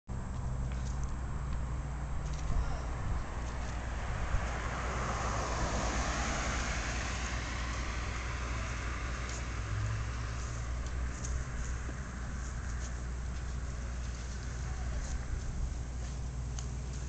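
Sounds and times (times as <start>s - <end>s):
traffic engine hum: 0.1s - 17.0s
tyre and road noise: 0.1s - 17.0s
vehicle passing: 0.2s - 17.0s.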